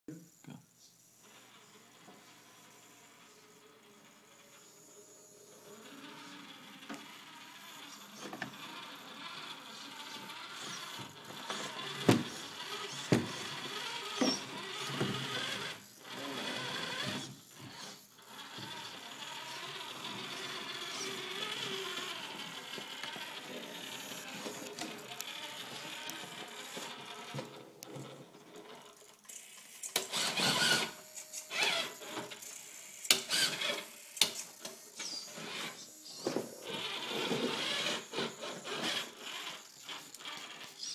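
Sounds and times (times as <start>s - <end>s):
rc car motor whining: 1.0s - 40.9s.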